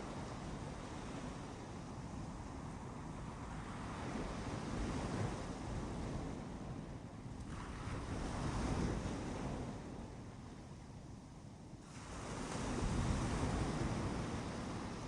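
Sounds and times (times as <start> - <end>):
waves breaking on a beach: 0.0 - 10.9, 11.8 - 15.0.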